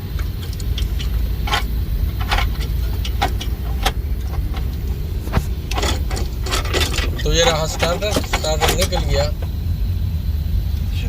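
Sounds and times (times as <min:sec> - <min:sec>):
metallic clinks and knocks: 0:00.0 - 0:09.6
steady low rumble: 0:00.0 - 0:11.0.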